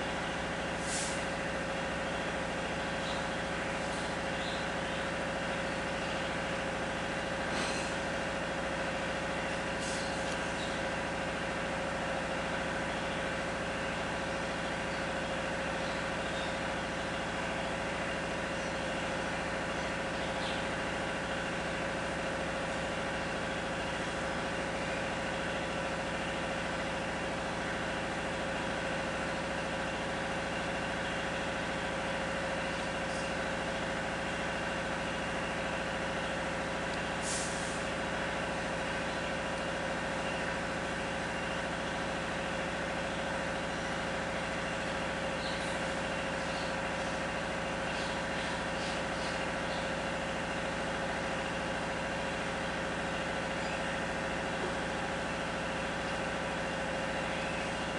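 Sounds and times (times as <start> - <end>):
steady machine hum: 0.0 - 57.9.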